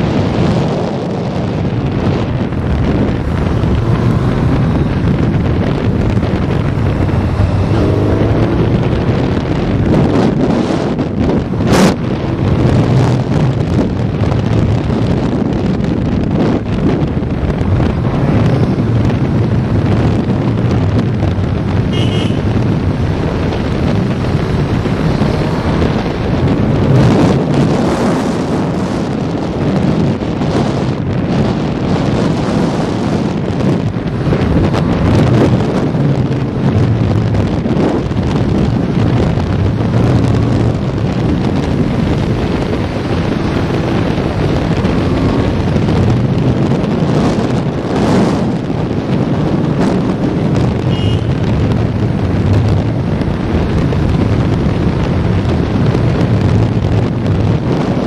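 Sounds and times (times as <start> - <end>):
motorcycle engine drone: 0.0 - 58.0
wind buffeting microphone: 0.0 - 58.0.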